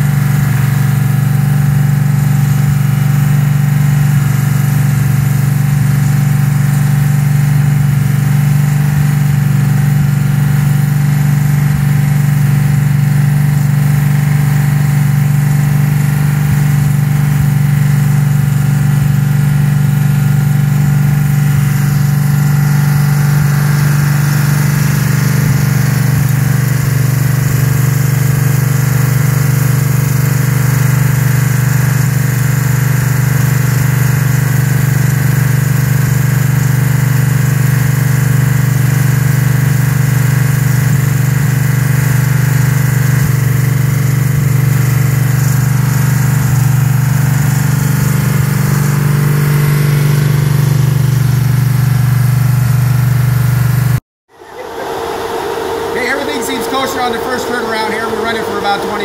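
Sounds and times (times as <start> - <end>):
vee eight engine running: 0.0 - 59.0.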